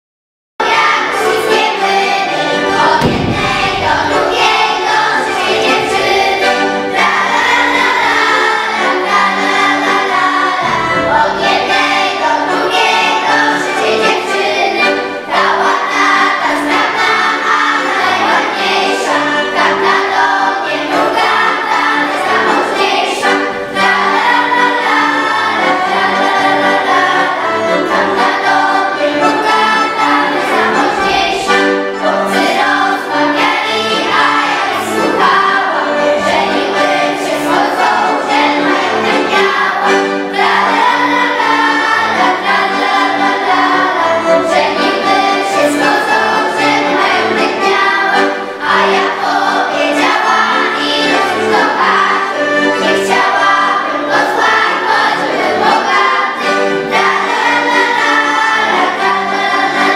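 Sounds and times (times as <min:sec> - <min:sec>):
children's choir singing: 0:00.6 - 0:59.9
piano accordion: 0:00.6 - 0:59.9.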